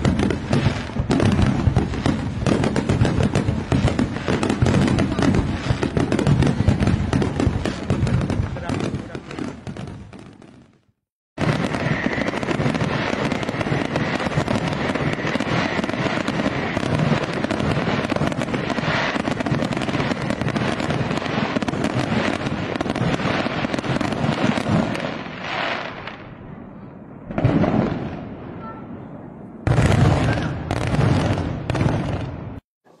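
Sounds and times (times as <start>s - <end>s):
fireworks crackling and popping: 0.0s - 28.8s, 29.6s - 33.0s.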